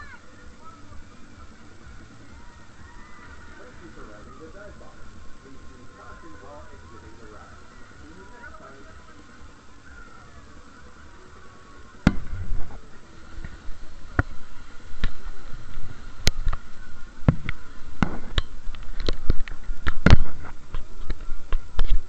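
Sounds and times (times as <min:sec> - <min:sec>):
faint high whine: 0:00.0 - 0:22.0.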